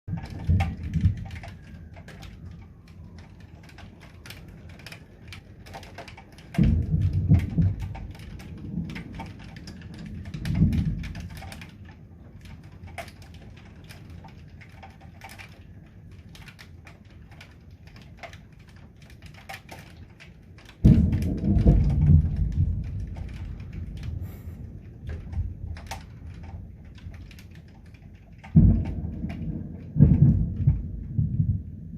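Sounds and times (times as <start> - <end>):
rain pattering: 0.1 - 31.9
thunder rumbling: 0.1 - 31.9.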